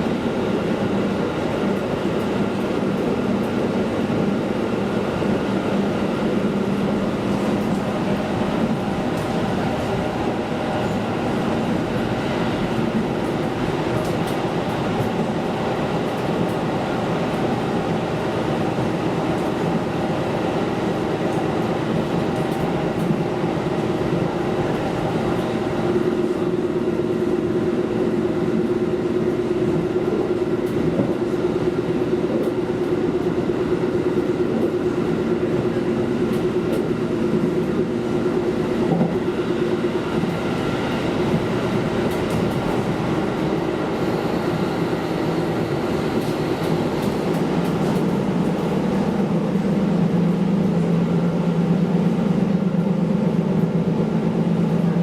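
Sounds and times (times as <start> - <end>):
diesel railcar engine drone: 0.0 - 55.0
train wheels rumbling: 0.0 - 55.0.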